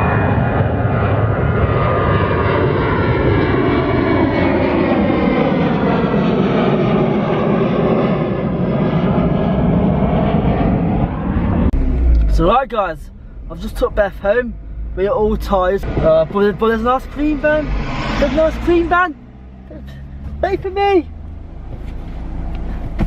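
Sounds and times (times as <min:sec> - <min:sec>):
airliner engine roar overhead: 0:00.0 - 0:23.0.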